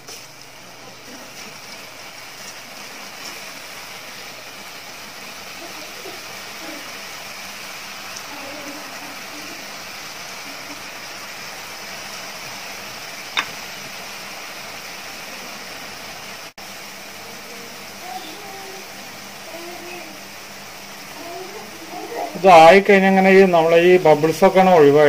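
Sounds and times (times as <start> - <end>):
dough deep-frying in oil: 0.0 - 25.0.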